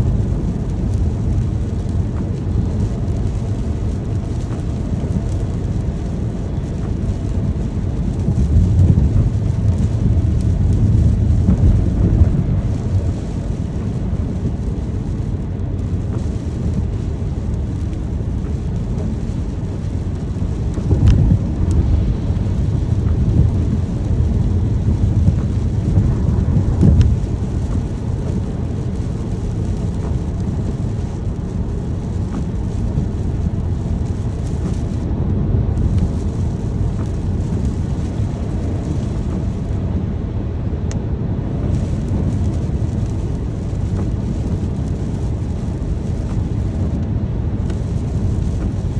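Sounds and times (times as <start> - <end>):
deep low rumble: 0.0 - 48.9
steady rain: 0.0 - 48.9.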